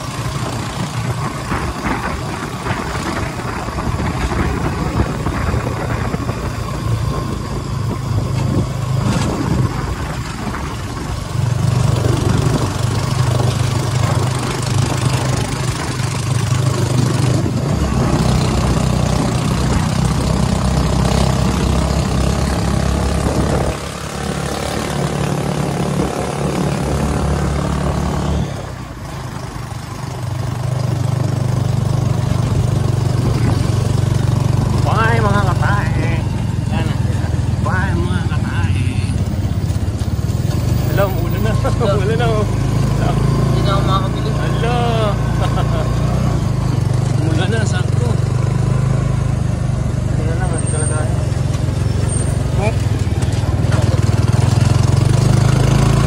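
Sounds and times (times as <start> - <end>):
road and wind noise: 0.0 - 56.0
small motorcycle engine running: 0.0 - 56.0.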